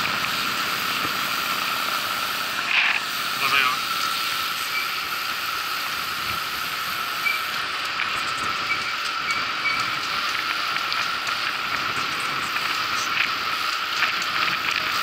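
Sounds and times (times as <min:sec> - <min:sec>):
bicycle tyres hissing on road: 0:00.0 - 0:15.0
wind: 0:00.0 - 0:15.0.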